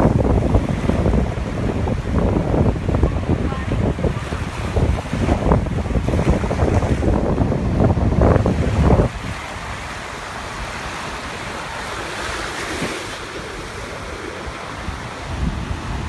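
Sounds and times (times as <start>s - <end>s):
waves washing onto shore: 0.0s - 16.0s
wind buffeting microphone: 0.0s - 16.0s.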